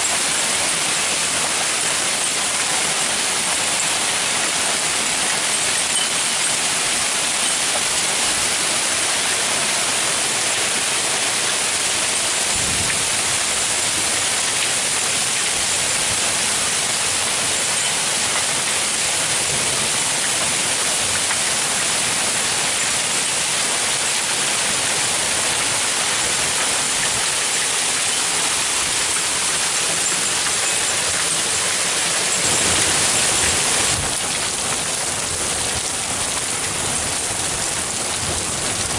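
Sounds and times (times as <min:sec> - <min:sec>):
hail hitting street: 0:00.0 - 0:38.9
rain: 0:00.0 - 0:38.9.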